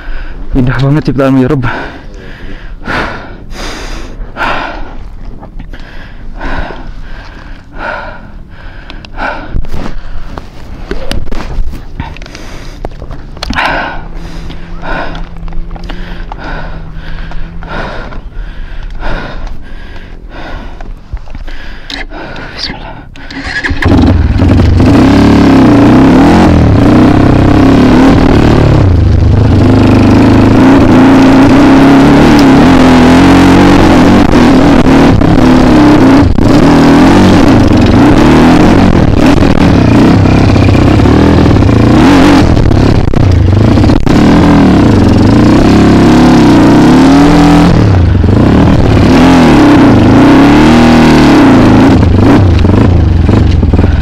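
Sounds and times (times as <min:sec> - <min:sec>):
motorbike engine revving: 0:05.6 - 0:20.8, 0:21.4 - 0:54.0.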